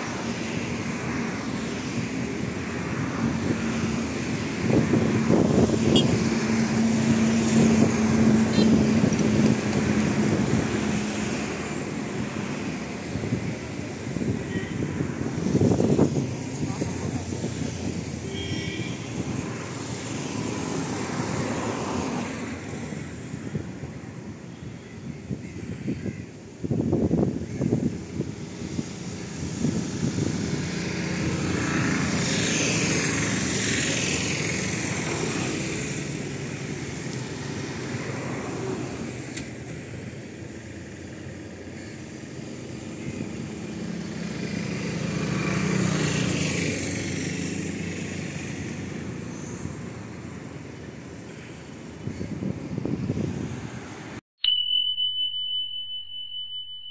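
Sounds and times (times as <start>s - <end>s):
vehicles passing on road: 0.0s - 54.2s.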